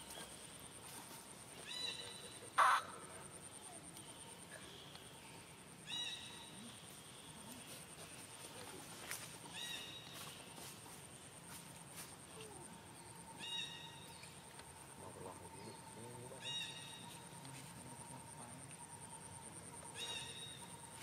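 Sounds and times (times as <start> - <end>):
high insect trill: 0.0 - 21.0.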